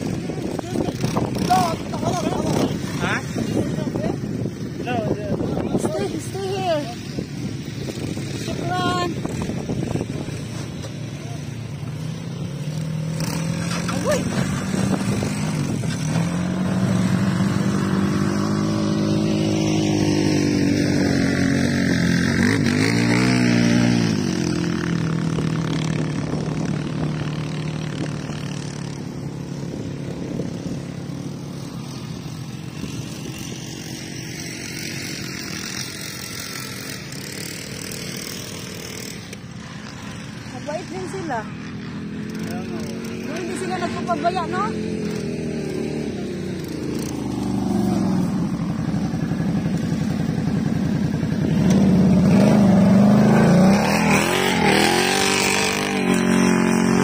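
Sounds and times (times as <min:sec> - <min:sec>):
quad bike engine running: 0:00.0 - 0:57.0.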